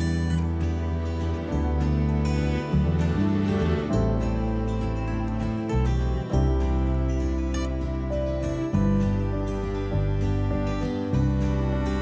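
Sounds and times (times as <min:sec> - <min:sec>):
soft new-age instrumental music: 0:00.0 - 0:12.0.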